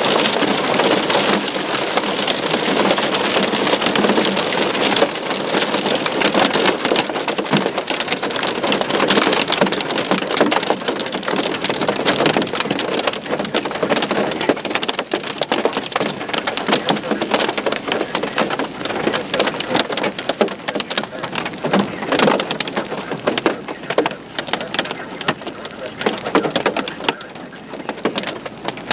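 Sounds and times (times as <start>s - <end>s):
hailstones pelting hard surfaces: 0.0s - 28.9s.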